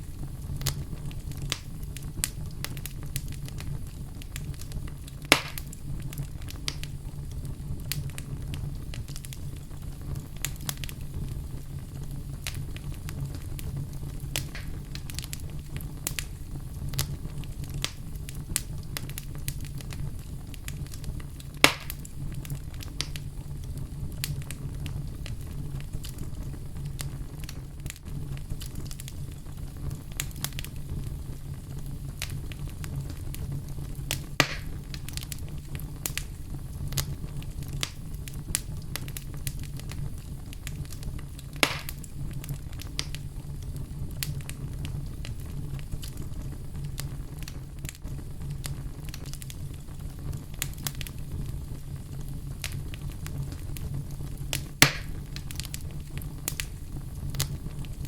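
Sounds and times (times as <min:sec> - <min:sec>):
fire crackling in a fireplace: 0:00.0 - 0:58.0
loud sharp fire pops: 0:00.2 - 0:31.3, 0:32.2 - 0:43.2, 0:44.1 - 0:58.0.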